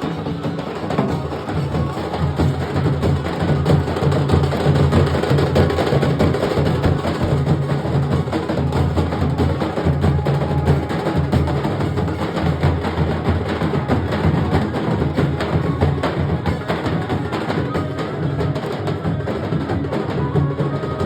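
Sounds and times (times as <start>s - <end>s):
dhol drums playing fast beat: 0.0s - 21.0s.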